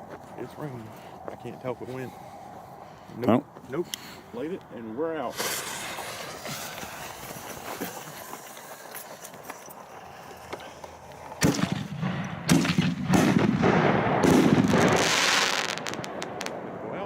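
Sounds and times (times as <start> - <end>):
rough crackling burn with pops: 0.0 - 17.0.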